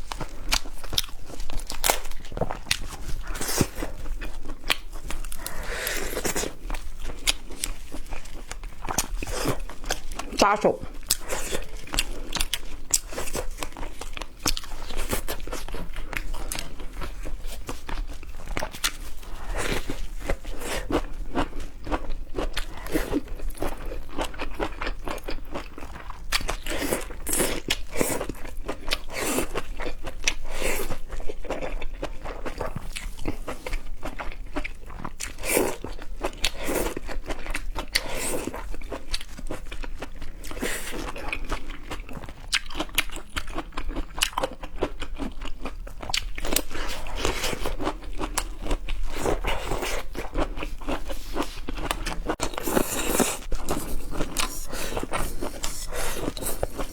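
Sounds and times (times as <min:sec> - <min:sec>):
person crunching food: 0:00.0 - 0:56.9.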